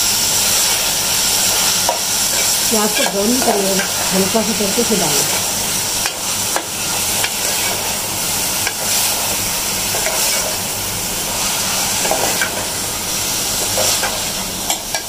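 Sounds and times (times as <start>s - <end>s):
meat and onions sizzling in a pot: 0.0s - 15.0s.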